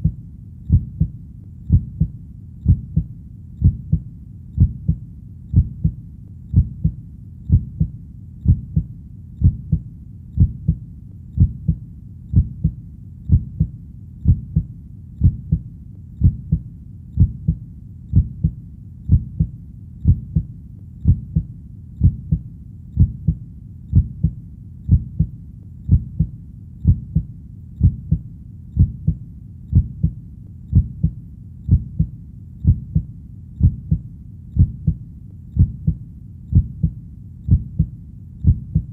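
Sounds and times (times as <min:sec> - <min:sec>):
faint low background hum: 0:00.0 - 0:38.9
heartbeat thumping: 0:00.0 - 0:38.9.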